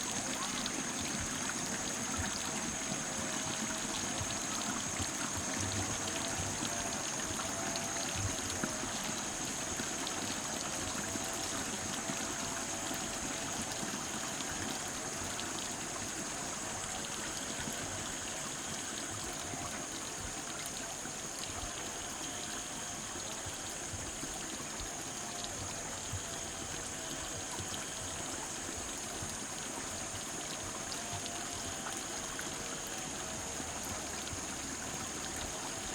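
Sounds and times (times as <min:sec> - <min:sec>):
running water: 0:00.0 - 0:35.9.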